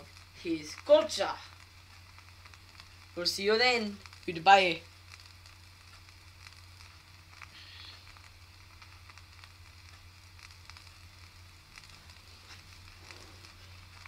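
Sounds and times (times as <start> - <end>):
steady hiss: 0.0 - 14.0
vinyl crackles and clicks: 0.0 - 14.0.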